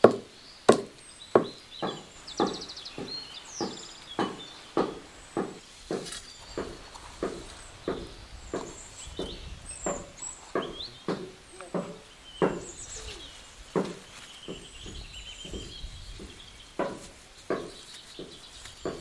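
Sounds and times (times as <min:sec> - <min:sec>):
birds chirping: 0:00.0 - 0:19.0
dull knocks: 0:00.0 - 0:19.0.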